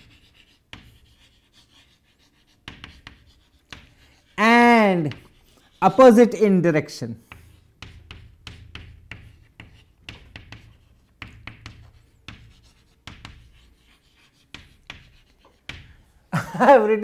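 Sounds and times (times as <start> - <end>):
chalk writing on a blackboard: 0.0 - 6.4, 7.2 - 16.3.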